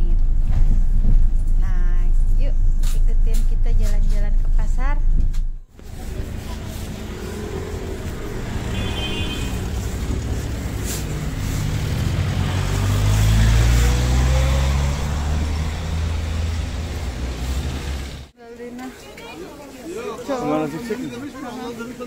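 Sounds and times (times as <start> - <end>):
bus engine rumbling: 0.0 - 18.4
street traffic: 0.0 - 22.0.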